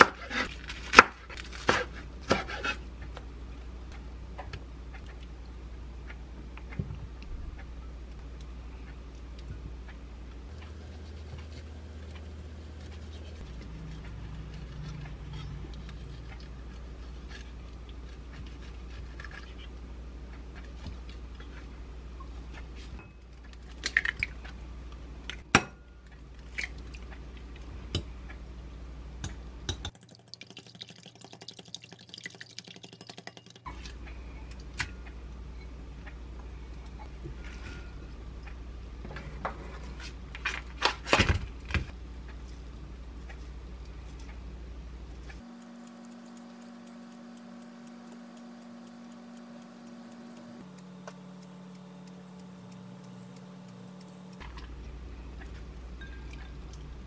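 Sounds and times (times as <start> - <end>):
steady low hum: 0.0 - 30.0, 33.6 - 40.6, 41.4 - 57.0.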